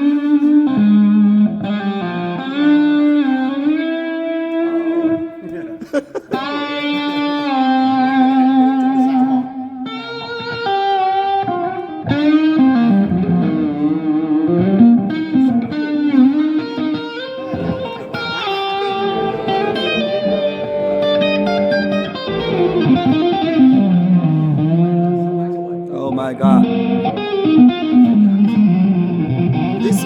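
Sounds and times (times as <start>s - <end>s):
electric guitar lead with vibrato: 0.0s - 30.0s.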